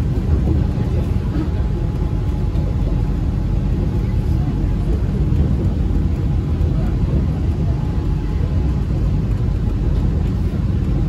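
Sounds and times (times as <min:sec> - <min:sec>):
monorail train rumbling: 0:00.0 - 0:11.0.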